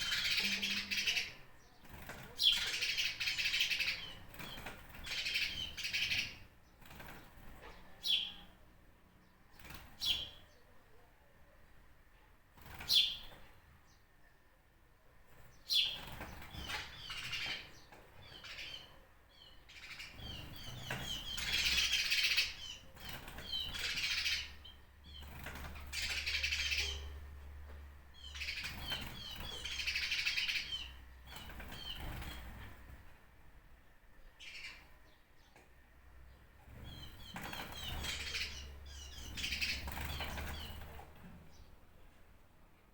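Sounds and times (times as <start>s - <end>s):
small birds chirping: 0.0s - 42.2s.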